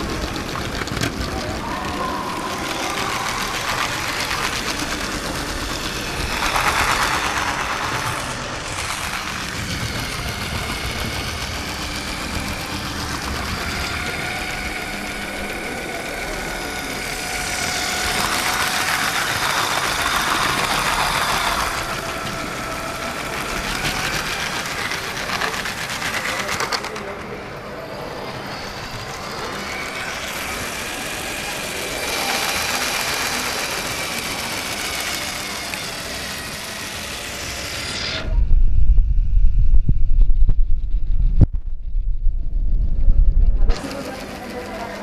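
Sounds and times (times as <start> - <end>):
toy train motor rattle and whine: 0.0 - 38.4, 43.7 - 45.0.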